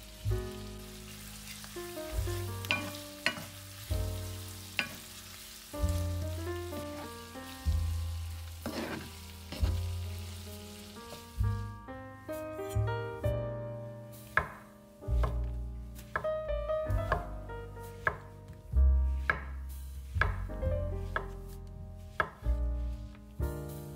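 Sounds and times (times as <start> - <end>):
food sizzling in a pan: 0.0 - 11.8, 14.0 - 17.2, 19.1 - 21.4, 22.0 - 23.9
slow music with bass and piano: 0.0 - 23.9.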